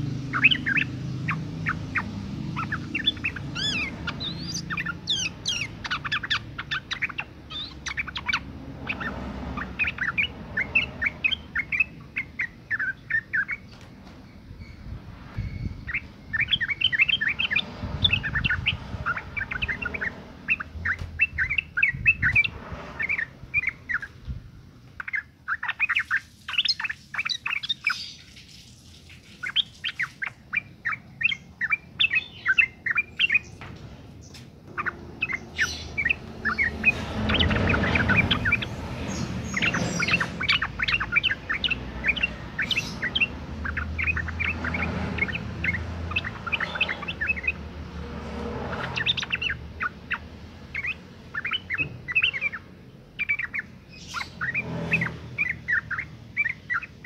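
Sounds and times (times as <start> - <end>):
bulbul chattering calls: 0.0 - 13.8, 15.4 - 24.2, 25.0 - 28.6, 29.2 - 33.6, 34.7 - 47.6, 48.4 - 57.0.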